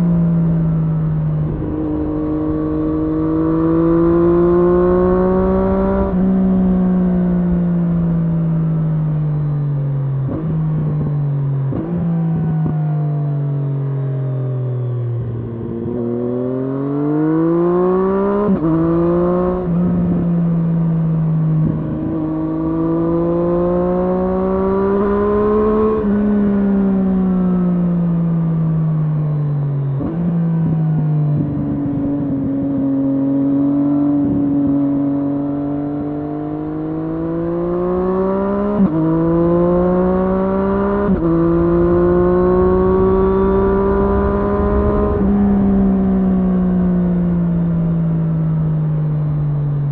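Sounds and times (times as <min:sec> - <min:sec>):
motorcycle engine revving: 0:00.0 - 0:09.2, 0:15.2 - 0:49.9
wind and road rumble: 0:00.0 - 0:49.9.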